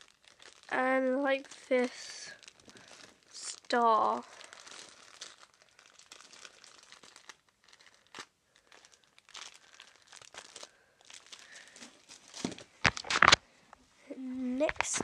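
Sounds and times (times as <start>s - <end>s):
packaging crinkling: 0.0s - 13.4s.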